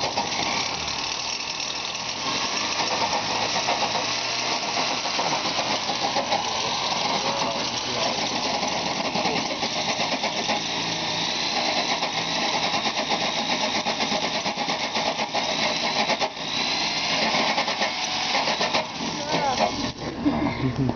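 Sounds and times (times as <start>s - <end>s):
electric drill with hole saw: 0.0s - 20.2s.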